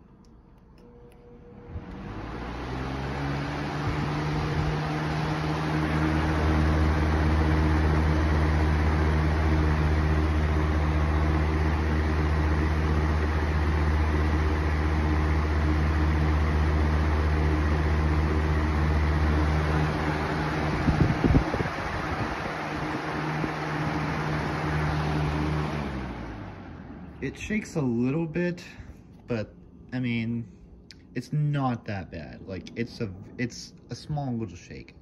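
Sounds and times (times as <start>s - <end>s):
box fan motor hum: 0.0s - 29.5s.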